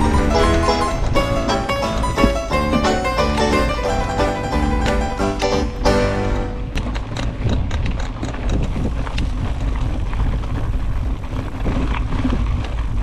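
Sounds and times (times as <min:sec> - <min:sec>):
bike rattling and knocking: 0:00.0 - 0:13.0
bike tyres rumbling on trail: 0:00.0 - 0:13.0
wind buffeting microphone: 0:00.0 - 0:13.0.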